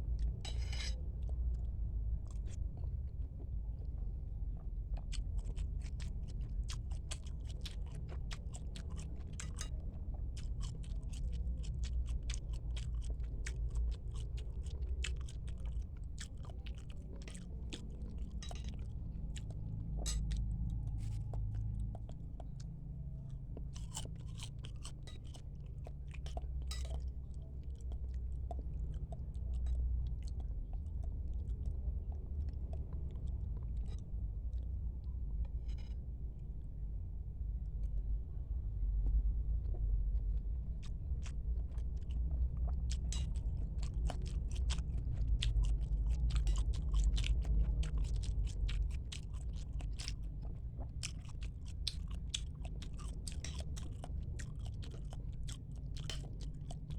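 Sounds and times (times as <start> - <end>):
close chewing: 0.0 - 36.8, 37.6 - 56.9
low steady rumble: 0.0 - 56.9.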